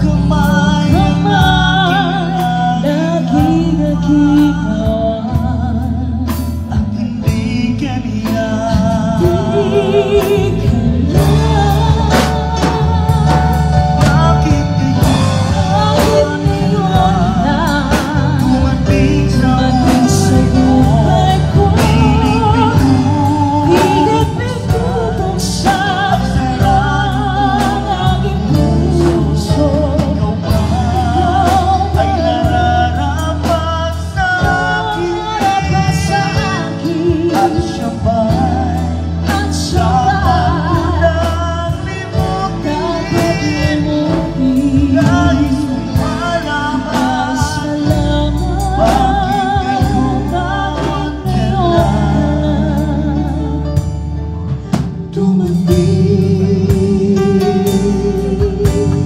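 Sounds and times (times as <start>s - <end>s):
bass guitar: 0.0s - 59.0s
drums: 0.0s - 59.0s
electric guitar: 0.0s - 59.0s
man singing: 0.0s - 59.0s
woman singing: 0.0s - 59.0s.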